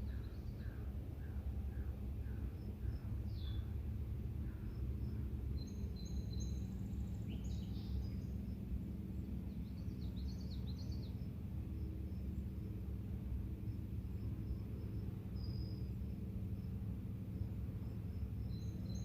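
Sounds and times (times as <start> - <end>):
low outdoor rumble: 0.0 - 19.0
songbirds chirping and trilling: 0.0 - 19.0.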